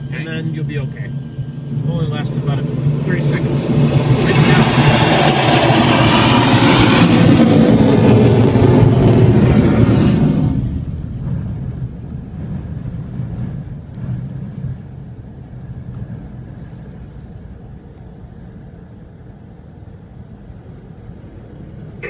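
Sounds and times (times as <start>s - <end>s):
jet engine at takeoff: 0.0s - 22.0s
low rumble: 0.0s - 22.0s.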